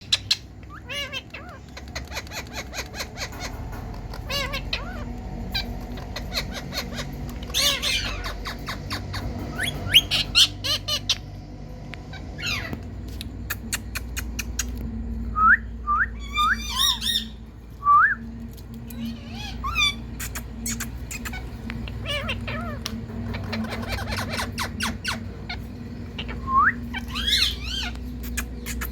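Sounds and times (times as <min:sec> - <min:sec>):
parakeet chirping and squawking: 0:00.0 - 0:14.9, 0:16.1 - 0:17.8, 0:18.4 - 0:28.9
steady low hum: 0:00.0 - 0:28.9.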